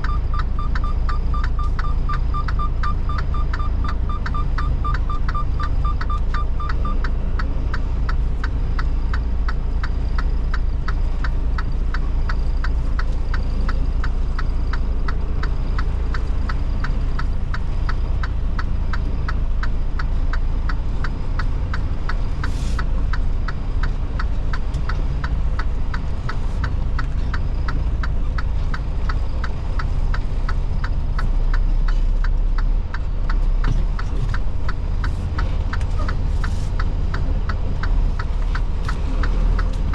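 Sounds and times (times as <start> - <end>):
regular ticking: 0.0 - 39.9
truck diesel engine rumbling: 0.0 - 39.9.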